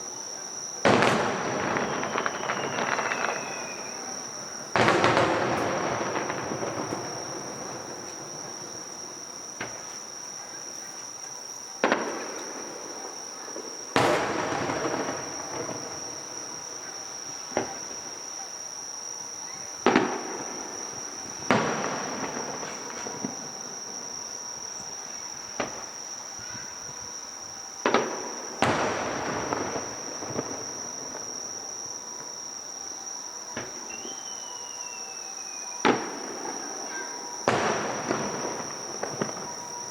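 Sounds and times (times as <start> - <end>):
fireworks bangs: 0.0 - 32.5, 33.1 - 39.9
crackling firework tail: 0.0 - 39.9
insects chirring: 0.0 - 39.9.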